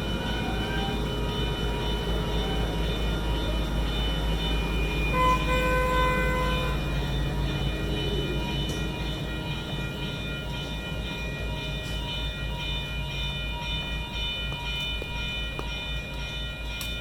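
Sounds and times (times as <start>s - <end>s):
steady high tones: 0.0s - 17.0s
train rumbling past: 0.0s - 17.0s.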